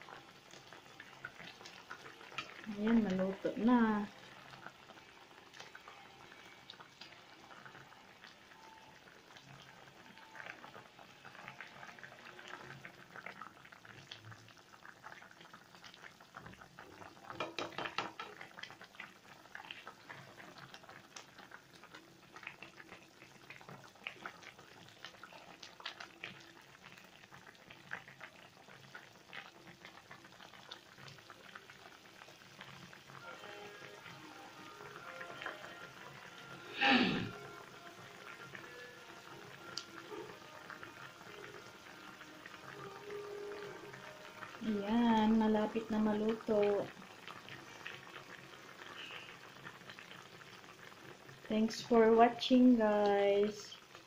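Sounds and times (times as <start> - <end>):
soup bubbles popping and crackling: 0.0 - 54.0.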